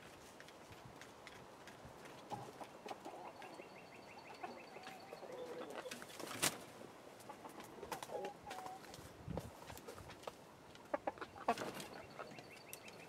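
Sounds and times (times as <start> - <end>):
chickens clucking: 0.4 - 13.0.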